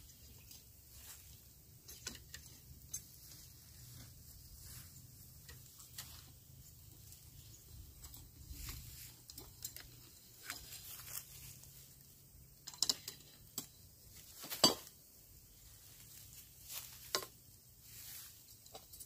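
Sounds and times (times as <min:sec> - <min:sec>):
bamboo pole rustling over dry leaves: 0:00.0 - 0:19.0.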